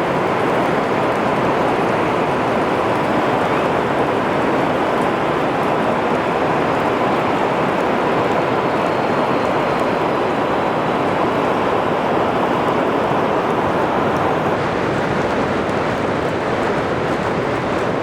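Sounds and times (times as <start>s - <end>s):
rain pouring: 0.0s - 18.0s.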